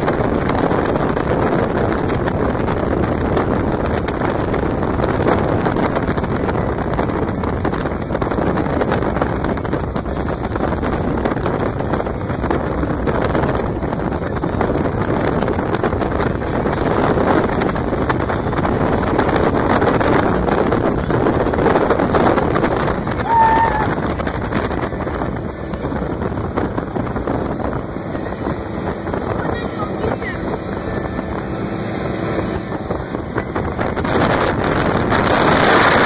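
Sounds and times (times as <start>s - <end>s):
hull on water: 0.0s - 36.0s
motorboat engine: 0.0s - 36.0s
wind on microphone: 0.0s - 36.0s.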